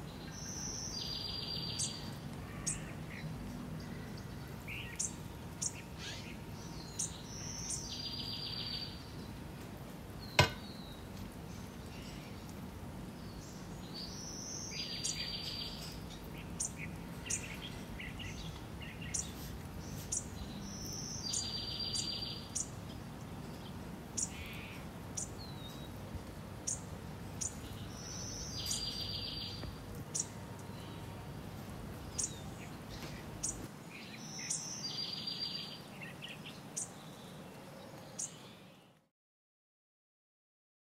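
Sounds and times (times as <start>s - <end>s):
steady low background noise: 0.0s - 39.1s.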